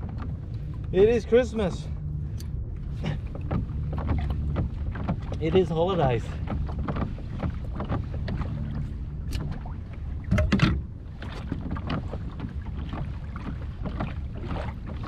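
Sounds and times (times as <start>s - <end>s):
paddle strokes splashing: 0.0s - 15.0s
wind rumbling on microphone: 0.0s - 15.0s.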